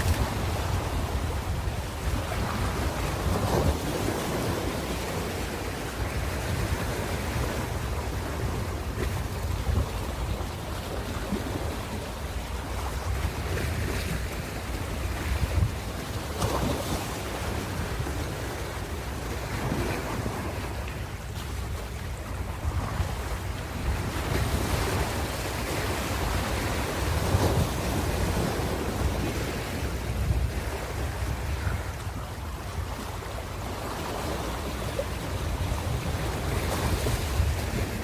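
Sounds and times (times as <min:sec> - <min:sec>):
ocean surf rumbling: 0:00.0 - 0:38.0.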